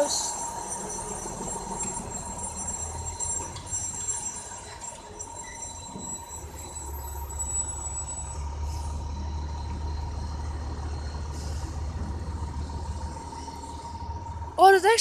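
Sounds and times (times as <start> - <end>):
fire truck engine rumbling: 0.0 - 15.0.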